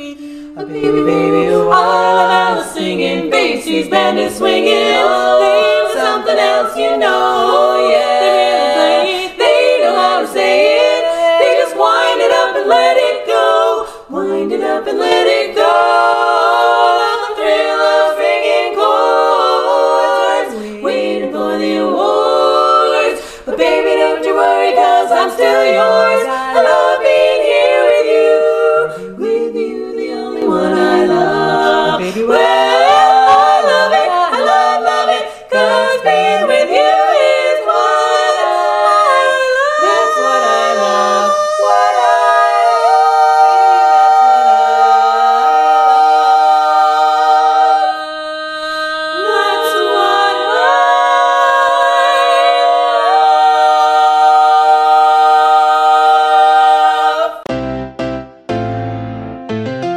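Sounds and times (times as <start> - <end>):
women singing a cappella: 0.0 - 57.5.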